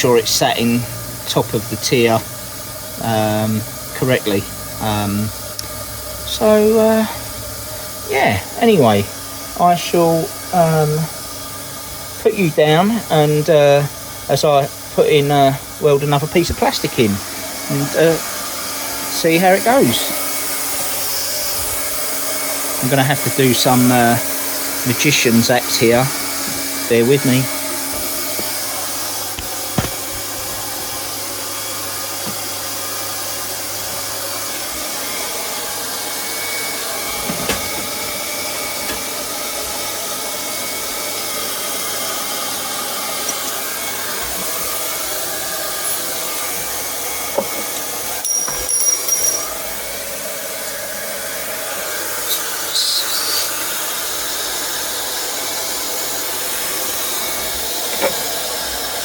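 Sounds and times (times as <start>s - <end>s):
hot-air welding gun blowing: 0.0s - 59.0s.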